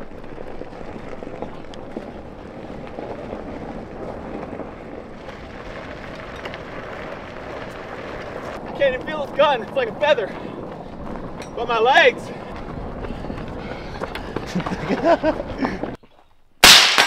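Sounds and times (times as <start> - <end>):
running footsteps on gravel: 0.0 - 16.3
rustling dry grass and brush: 0.0 - 16.3.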